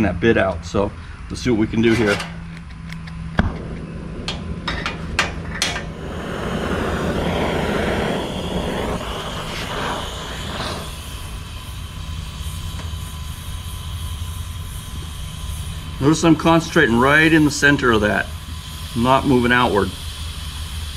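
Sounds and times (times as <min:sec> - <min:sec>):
cutting torch flame hissing: 0:00.0 - 0:20.9.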